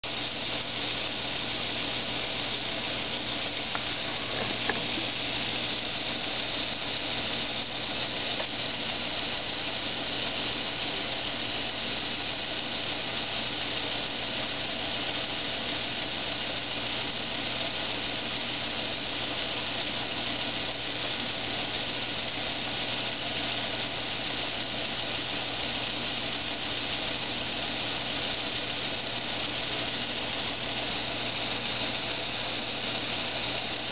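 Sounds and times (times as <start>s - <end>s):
mechanical whir: 0.0s - 33.9s.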